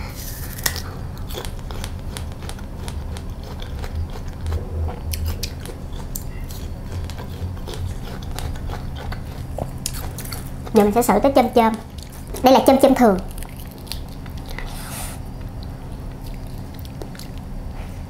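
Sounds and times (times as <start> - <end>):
biting and chewing crisp fruit: 0.1 - 18.0.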